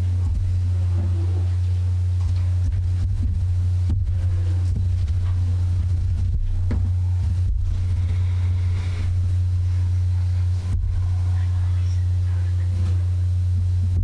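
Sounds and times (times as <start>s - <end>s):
faint indistinct sounds: 0.0s - 14.0s
steady low hum: 0.0s - 14.0s.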